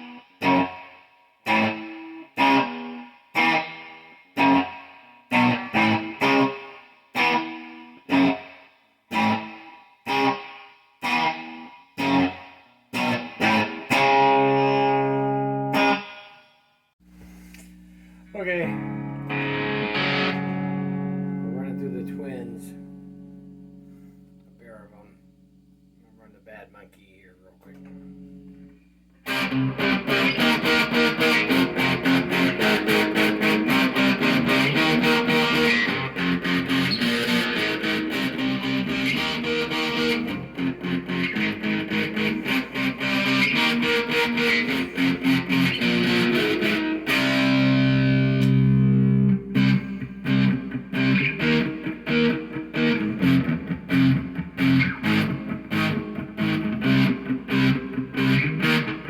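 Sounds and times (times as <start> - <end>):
overdriven electric guitar riff: 0.0 - 16.4, 17.6 - 26.4, 27.6 - 59.0
guitar chord ringing: 1.5 - 16.3, 17.8 - 59.0.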